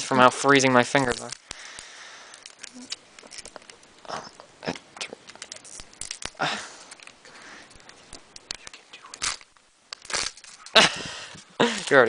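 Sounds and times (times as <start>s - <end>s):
foil pack crinkling and tearing: 0.4s - 4.0s, 4.7s - 11.0s.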